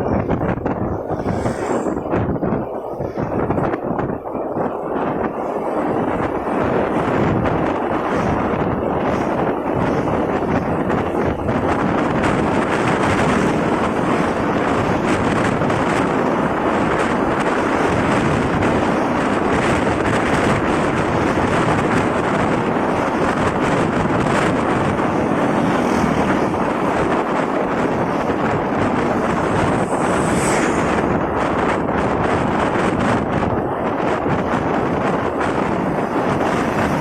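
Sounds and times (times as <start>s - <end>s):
road traffic: 0.0s - 37.0s
wind rushing over microphone: 0.0s - 37.0s.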